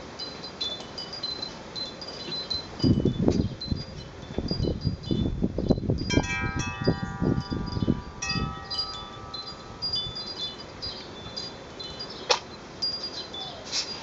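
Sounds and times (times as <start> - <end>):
wind chime ringing: 0.2 - 14.0.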